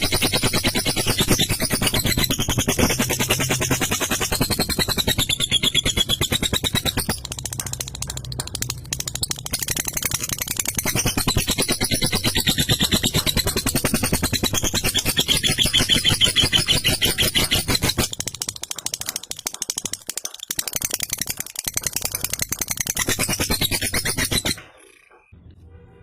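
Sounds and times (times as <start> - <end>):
lovebird rattling trill: 0.0 - 25.3.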